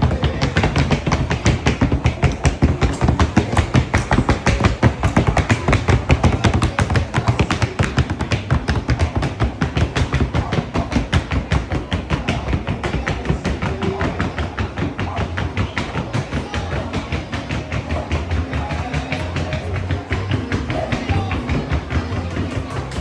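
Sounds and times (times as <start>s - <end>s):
horse hooves on hard surface: 0.0s - 23.0s.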